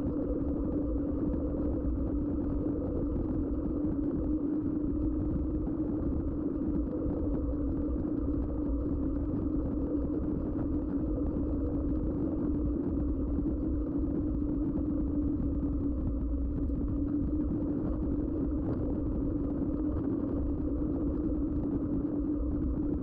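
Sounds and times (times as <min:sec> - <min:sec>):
low fluctuating rumble: 0:00.0 - 0:23.0.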